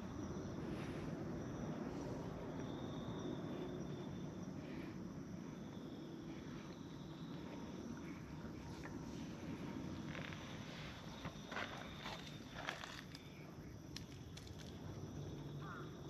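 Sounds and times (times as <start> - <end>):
high insect trill: 0.0 - 16.0
low background rumble: 0.0 - 16.0.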